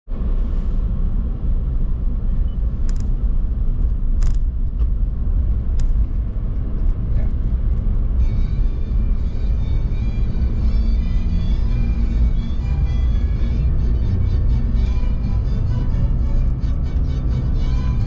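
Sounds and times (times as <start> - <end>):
car cabin road rumble: 0.1 - 18.0.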